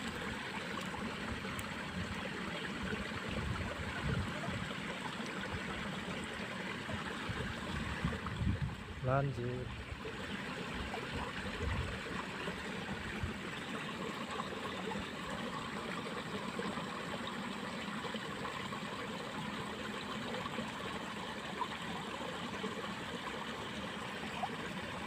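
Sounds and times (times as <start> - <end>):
water flowing in a ditch: 0.0 - 25.0.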